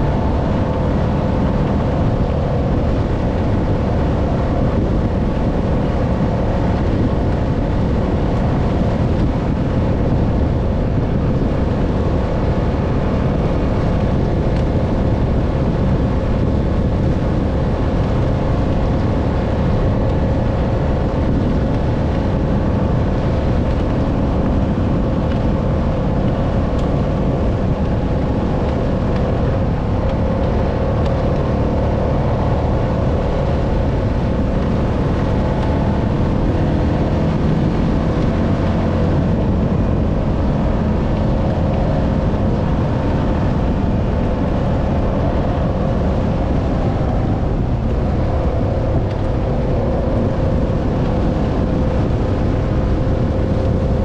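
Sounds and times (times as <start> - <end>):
atv engine droning: 0.0 - 54.0.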